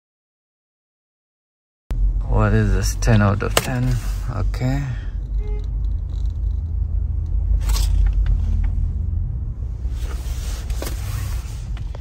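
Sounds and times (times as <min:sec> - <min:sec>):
car idling: 0:01.9 - 0:12.0.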